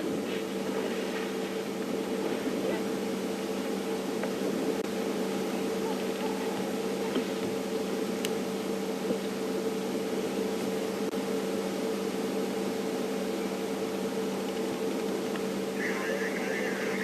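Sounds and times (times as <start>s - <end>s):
low hum with tones: 0.0s - 17.0s.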